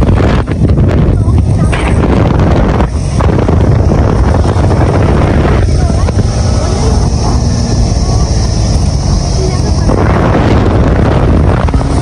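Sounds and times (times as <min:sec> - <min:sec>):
motorbike and road noise: 0:00.0 - 0:12.0
wind buffeting microphone: 0:00.0 - 0:12.0.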